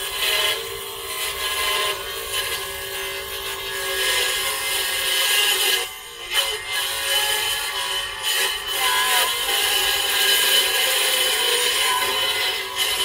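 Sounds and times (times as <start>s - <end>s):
saw blade rasping through wood: 0.0s - 13.0s
table saw motor whine: 0.0s - 13.0s.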